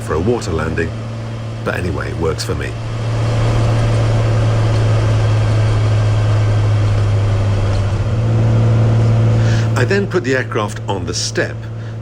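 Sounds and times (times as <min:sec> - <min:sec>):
plane engine and propeller droning: 0:00.0 - 0:12.0.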